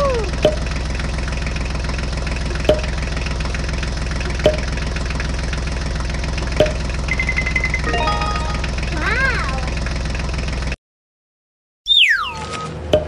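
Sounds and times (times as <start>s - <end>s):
tractor engine idling: 0.0s - 10.8s.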